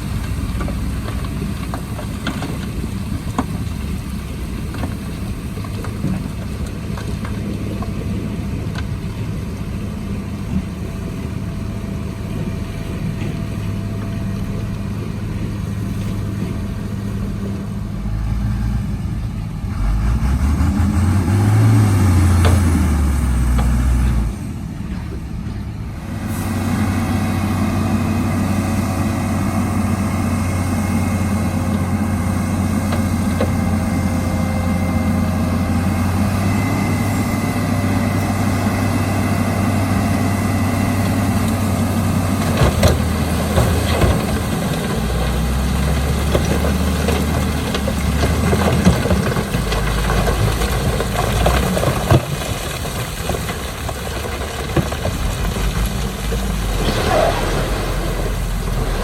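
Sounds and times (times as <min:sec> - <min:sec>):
heavy diesel engine revving: 0:06.0 - 0:52.2, 0:55.1 - 0:59.0.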